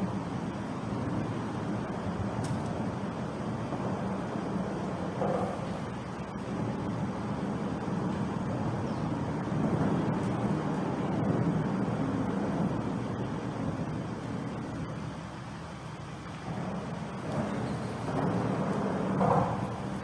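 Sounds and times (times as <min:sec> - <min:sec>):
road traffic rumbling: 0:00.0 - 0:20.0.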